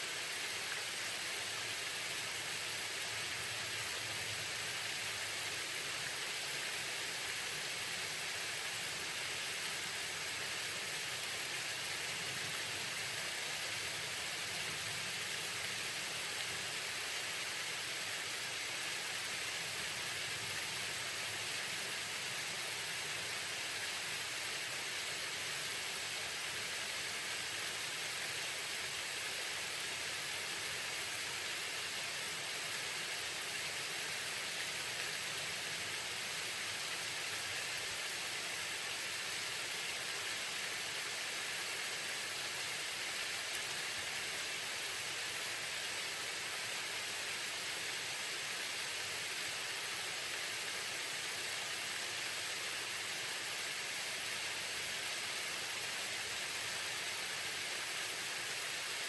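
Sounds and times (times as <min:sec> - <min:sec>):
waterfall hiss: 0:00.0 - 0:59.0.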